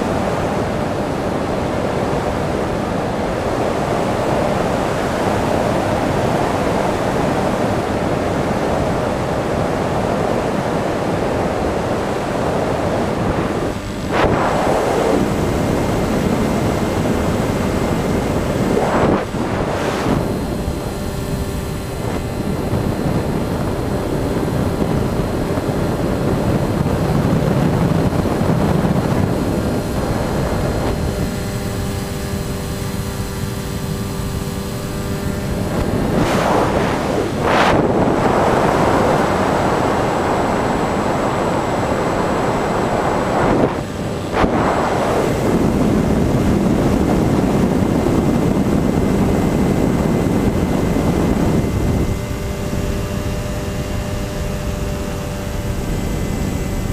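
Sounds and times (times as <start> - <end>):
model plane motor hum: 0.0 - 56.9
wind rushing over microphone: 0.0 - 56.9.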